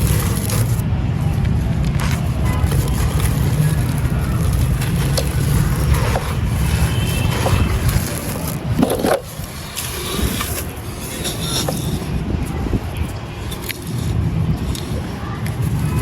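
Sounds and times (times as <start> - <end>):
clay and sand crunching: 0.0 - 16.0
heavy low rumble: 0.0 - 16.0
sharp crackles: 0.0 - 16.0.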